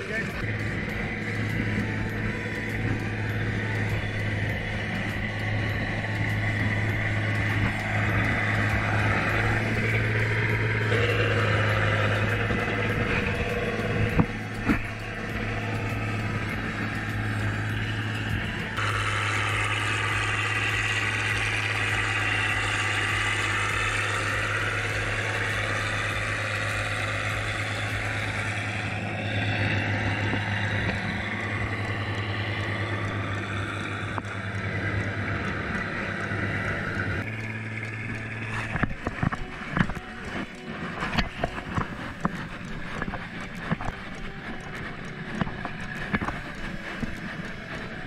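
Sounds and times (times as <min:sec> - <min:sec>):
churning water and mud: 0:00.0 - 0:48.0
tractor engine running: 0:00.0 - 0:48.0.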